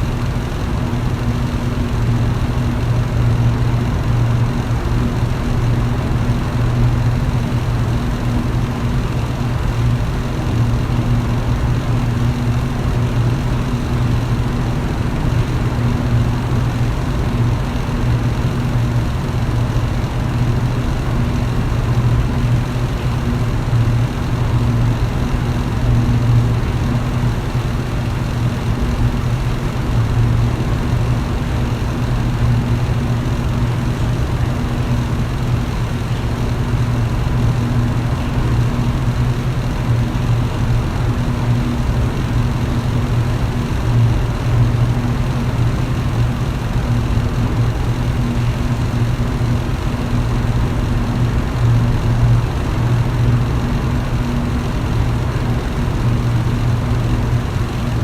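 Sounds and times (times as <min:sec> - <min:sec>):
electric fan motor hum: 0:00.0 - 0:58.0
fan blades whooshing: 0:00.0 - 0:58.0.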